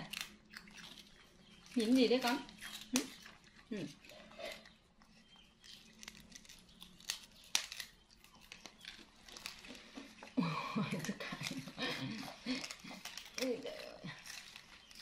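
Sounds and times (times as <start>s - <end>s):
crinkling and crackling: 0.0s - 15.0s.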